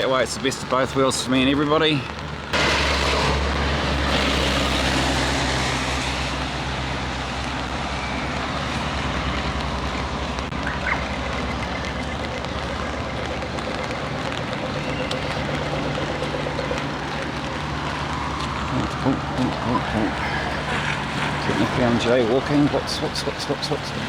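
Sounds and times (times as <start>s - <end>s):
low engine rumble: 0.0s - 24.0s
tyres hissing on wet road: 0.0s - 24.0s.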